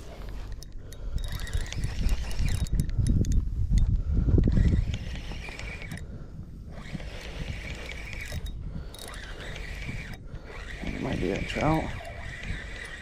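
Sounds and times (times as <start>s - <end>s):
fishing reel cranking: 0.0s - 13.0s
low rumble of wind: 0.0s - 13.0s.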